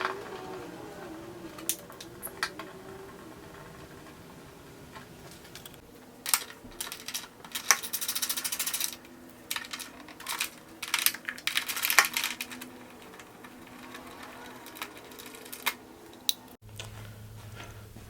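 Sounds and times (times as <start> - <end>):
hand tools clicking and clinking: 0.0 - 16.6.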